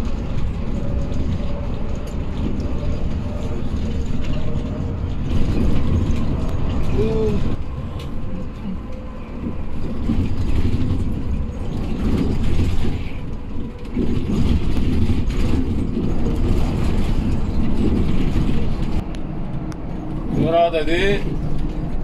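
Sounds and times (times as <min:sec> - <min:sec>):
bus engine and road rumble: 0:00.0 - 0:22.0
cabin rattling and creaking: 0:00.0 - 0:22.0.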